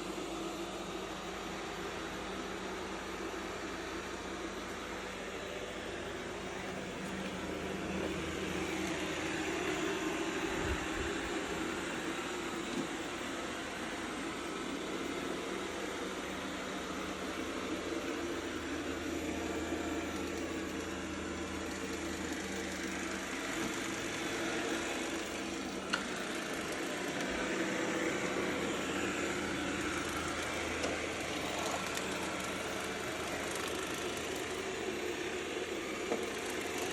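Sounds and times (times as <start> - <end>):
robot vacuum whirring: 0.0 - 36.9.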